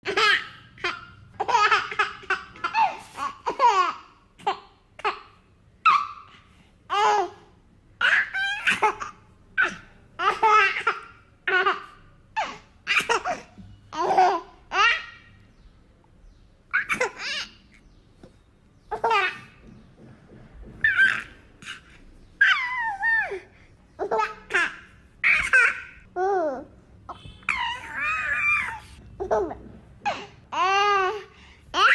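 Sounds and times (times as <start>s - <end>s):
baby laughing: 0.1s - 6.3s, 8.0s - 15.3s, 16.7s - 17.6s, 18.9s - 19.6s, 20.8s - 31.9s.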